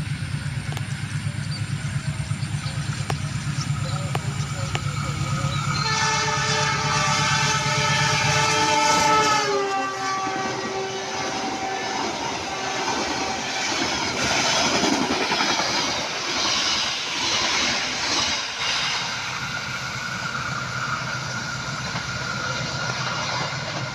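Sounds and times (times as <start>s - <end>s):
passenger train carriages rumbling: 0.0s - 23.9s.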